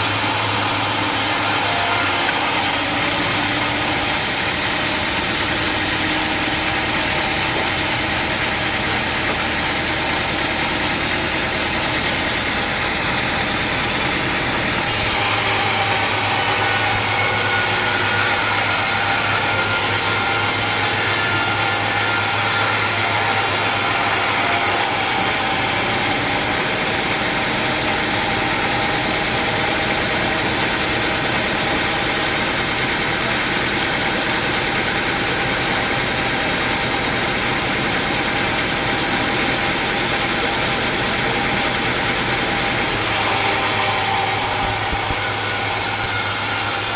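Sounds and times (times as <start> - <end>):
saw blade cutting log: 0.0 - 46.9
sawmill machinery running: 0.0 - 46.9.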